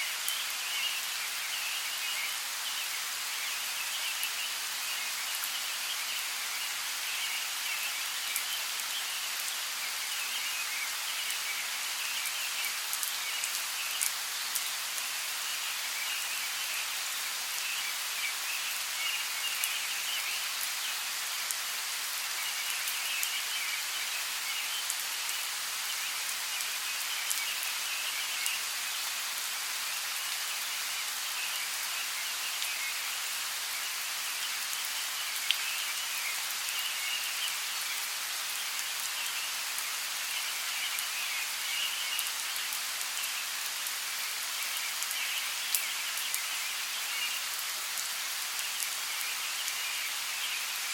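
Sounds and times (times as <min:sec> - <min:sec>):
rain falling on leaves: 0:00.0 - 0:50.9.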